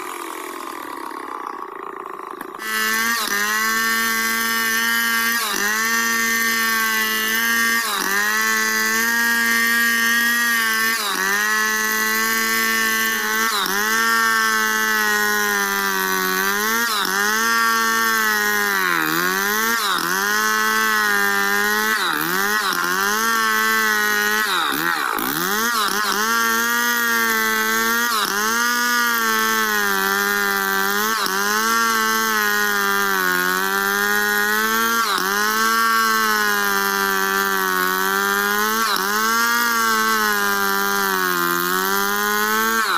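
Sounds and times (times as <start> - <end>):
chainsaw cutting log: 0.0 - 42.9.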